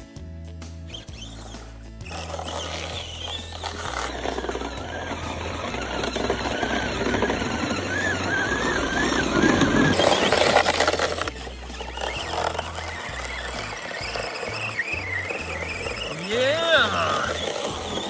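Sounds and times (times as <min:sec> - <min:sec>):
electric motor whining: 0:00.9 - 0:18.0.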